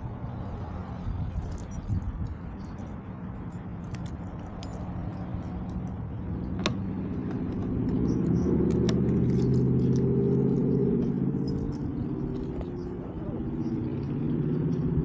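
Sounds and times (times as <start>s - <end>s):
motorcycle engine running: 1.1s - 15.0s.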